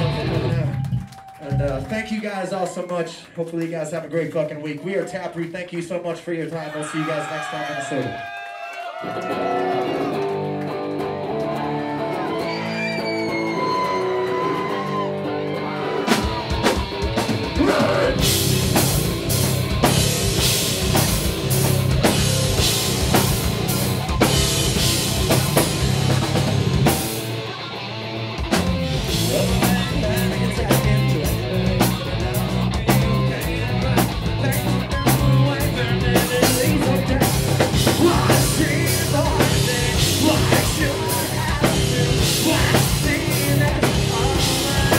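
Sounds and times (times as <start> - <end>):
electric guitar: 0.0 - 1.9, 9.0 - 44.9
rock band playing loudly: 0.0 - 3.4, 9.0 - 44.9
drums: 0.0 - 8.3, 8.9 - 44.9.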